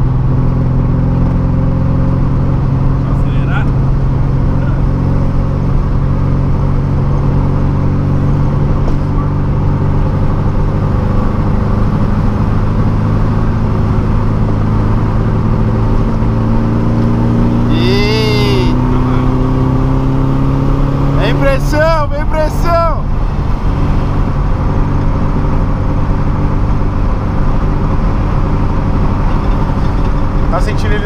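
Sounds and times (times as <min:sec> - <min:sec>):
car engine cruising from inside: 0:00.0 - 0:31.0.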